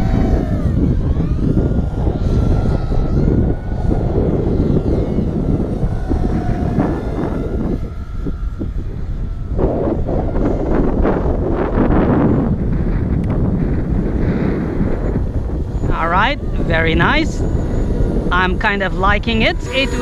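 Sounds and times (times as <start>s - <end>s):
quadcopter motors whining: 0.0s - 20.0s
wind rumble on microphone: 0.0s - 20.0s.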